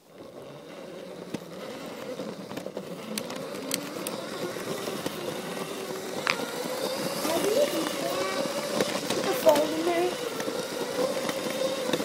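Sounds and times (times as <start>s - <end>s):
toy train motor whining: 0.0s - 12.0s.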